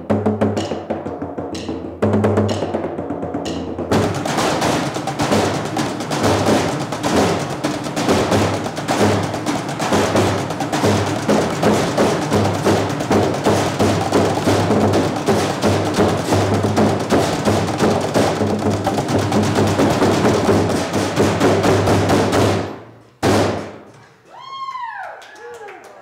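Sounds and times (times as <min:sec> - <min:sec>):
drumming on metal trash cans: 0:00.0 - 0:23.9.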